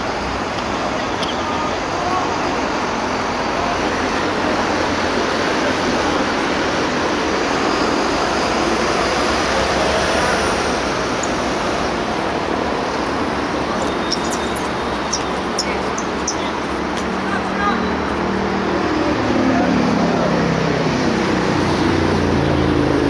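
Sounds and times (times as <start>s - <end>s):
steady rushing outdoor noise: 0.0s - 23.0s.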